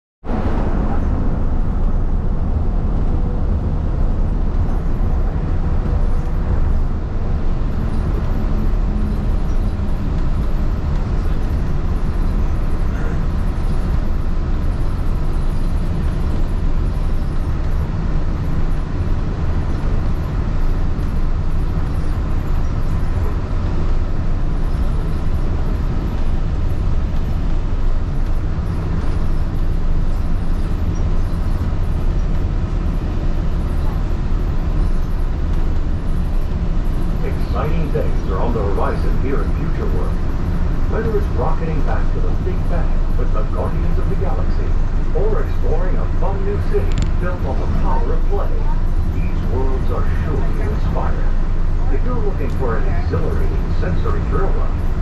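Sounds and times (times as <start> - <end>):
train rumble: 0.2 - 55.0
faint motor hum: 0.3 - 55.0.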